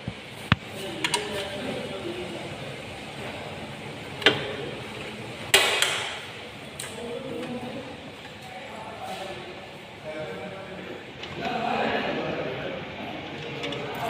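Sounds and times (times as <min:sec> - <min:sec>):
background murmur: 0:00.0 - 0:14.0.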